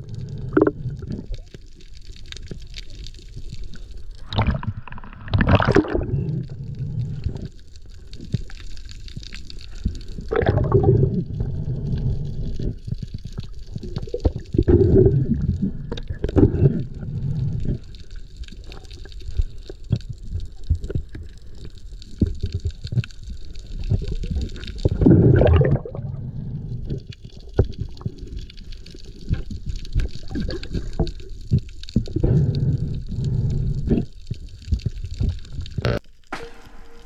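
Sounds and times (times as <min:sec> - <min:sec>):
underwater water swishing: 0:00.0 - 0:36.0.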